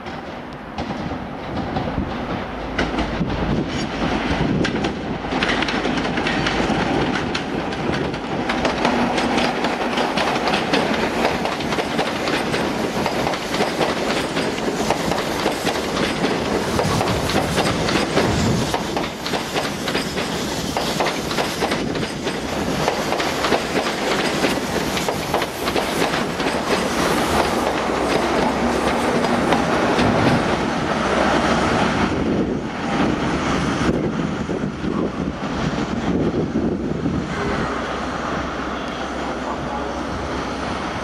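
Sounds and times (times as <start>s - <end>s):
train wheels clattering over rail joints: 0.0s - 34.0s
diesel locomotive passing: 0.0s - 41.0s.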